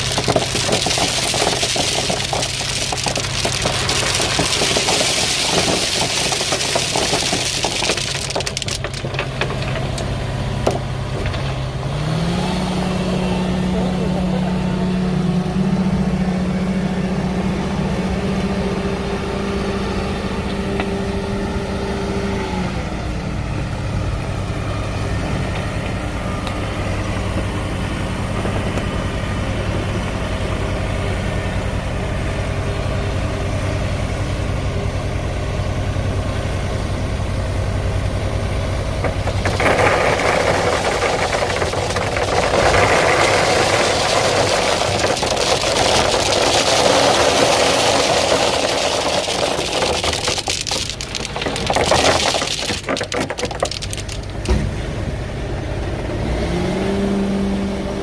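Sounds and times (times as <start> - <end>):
digging machine engine running: 0.0 - 55.2.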